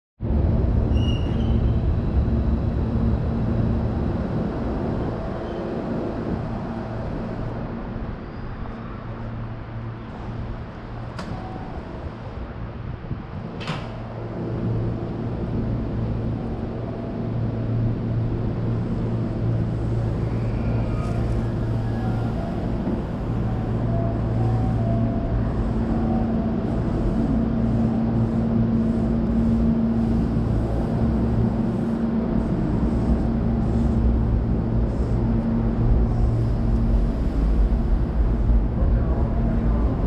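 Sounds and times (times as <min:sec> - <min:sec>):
electric train hum: 0:00.2 - 0:40.0.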